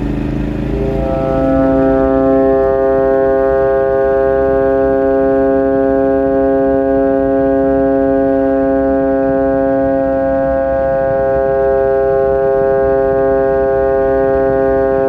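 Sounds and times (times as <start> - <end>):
kite flutes sounding in wind: 0.0 - 15.0.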